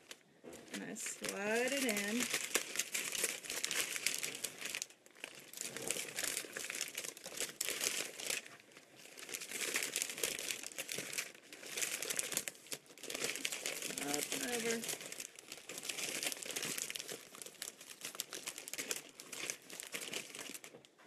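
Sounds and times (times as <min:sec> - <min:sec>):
cellophane bag crinkling: 0:00.0 - 0:21.0.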